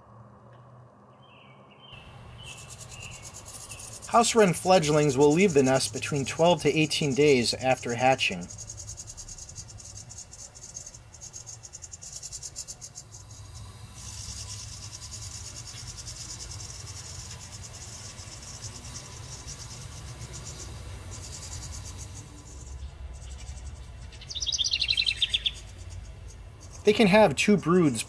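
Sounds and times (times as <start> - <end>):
nestlings begging chatter: 2.0 - 28.0.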